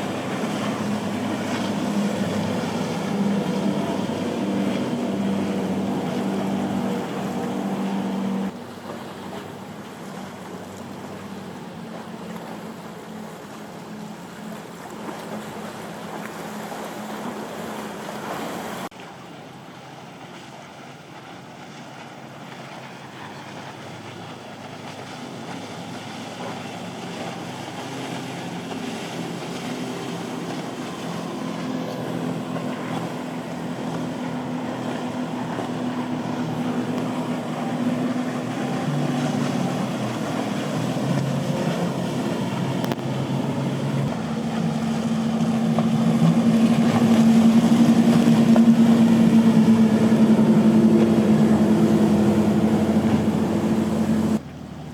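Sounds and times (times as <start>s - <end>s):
motorboat engines droning: 0.0s - 54.9s.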